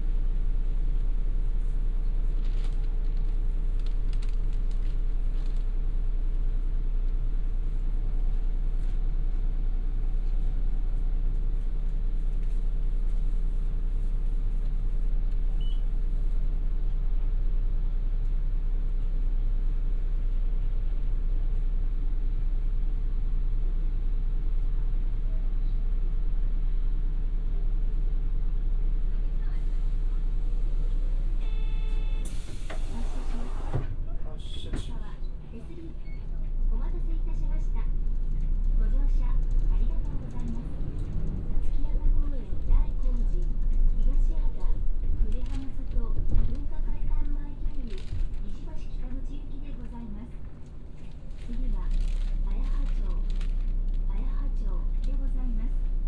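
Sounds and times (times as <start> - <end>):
bus diesel engine idling: 0.0 - 56.0
constant hum: 0.0 - 56.0.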